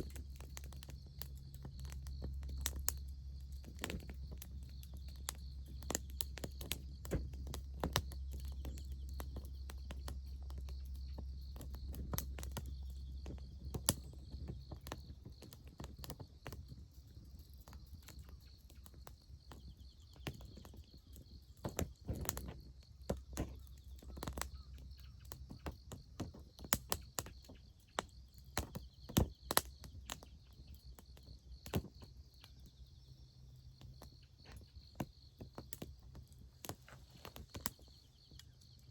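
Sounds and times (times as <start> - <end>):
insects chirring: 0.0 - 38.9
wood fire crackling and popping: 0.0 - 38.9.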